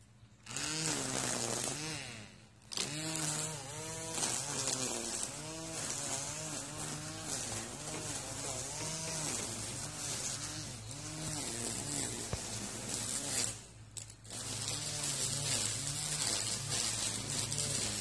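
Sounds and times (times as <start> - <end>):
string trimmer engine revving: 0.4 - 18.0.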